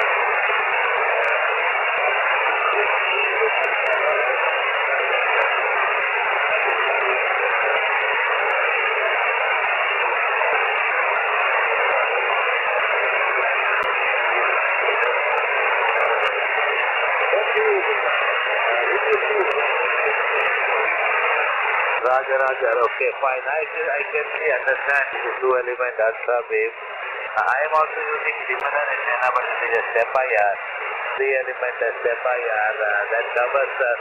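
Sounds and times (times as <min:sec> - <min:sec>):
radio receiver hiss: 0:00.0 - 0:34.0.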